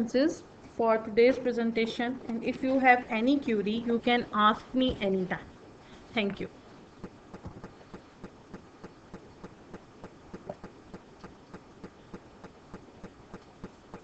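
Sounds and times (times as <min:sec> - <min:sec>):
low hiss: 0:00.0 - 0:14.0
faint regular ticking: 0:01.9 - 0:14.0.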